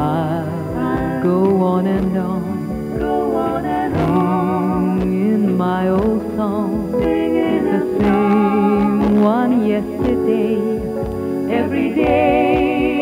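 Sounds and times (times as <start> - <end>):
pop band with guitar: 0.0 - 13.0
woman singing with vibrato: 0.0 - 13.0.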